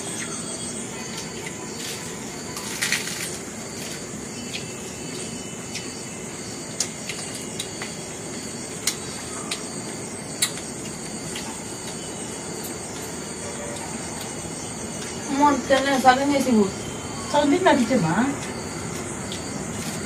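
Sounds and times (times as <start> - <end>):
people chewing food: 0.0 - 15.9, 18.3 - 20.0.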